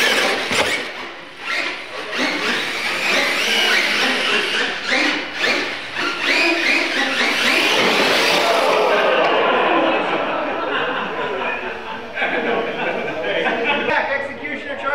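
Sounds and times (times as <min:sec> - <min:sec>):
electric motors whining: 0:00.0 - 0:13.4.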